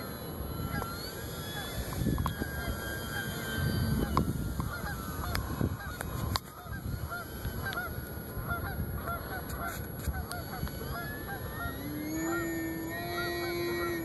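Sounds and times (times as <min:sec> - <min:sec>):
model plane motor whine: 0:00.0 - 0:14.0
short bird calls: 0:00.6 - 0:14.0.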